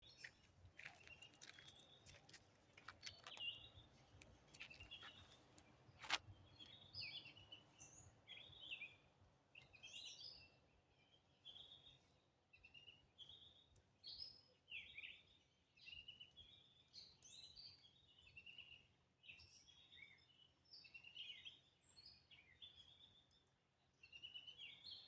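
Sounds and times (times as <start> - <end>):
faint birdsong chirping and trilling: 0.0 - 25.0.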